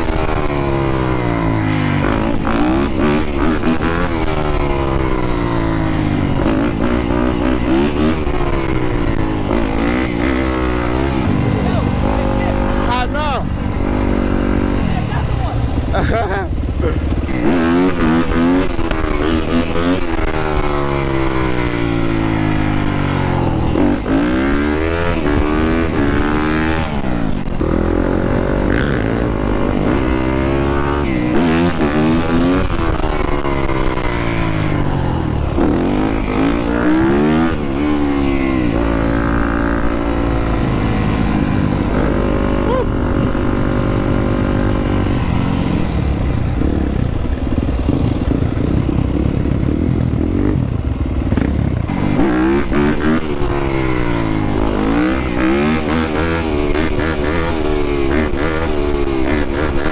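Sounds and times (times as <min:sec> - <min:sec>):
dirt bike engine revving: 0:00.0 - 0:59.9
second dirt bike engine: 0:00.0 - 0:59.9.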